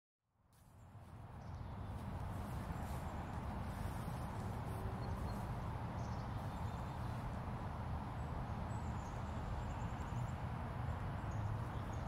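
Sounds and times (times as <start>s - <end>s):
distant road traffic rumble: 0.6s - 12.0s.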